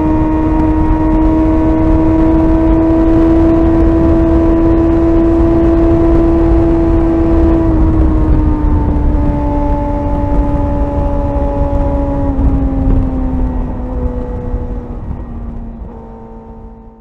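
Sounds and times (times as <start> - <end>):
motorcycle engine slowing: 0.0 - 17.0
wind and road noise rumble: 0.0 - 17.0.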